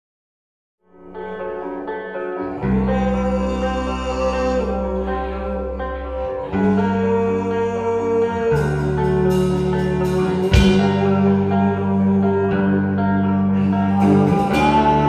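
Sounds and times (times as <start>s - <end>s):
rock band playing: 1.2s - 15.0s.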